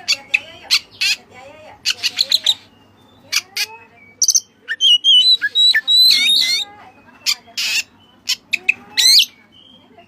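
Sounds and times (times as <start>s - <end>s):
bird whistling song: 1.9s - 10.0s.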